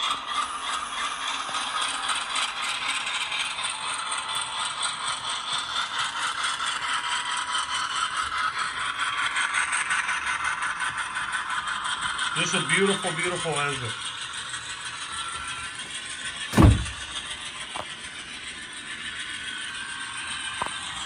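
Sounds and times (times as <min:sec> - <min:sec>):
model train rattling clicks: 0:00.0 - 0:21.0.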